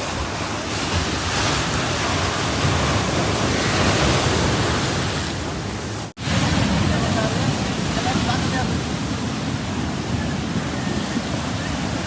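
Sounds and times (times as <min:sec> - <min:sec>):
sea waves washing in: 0:00.0 - 0:12.0
wind rumbling on microphone: 0:00.0 - 0:12.0.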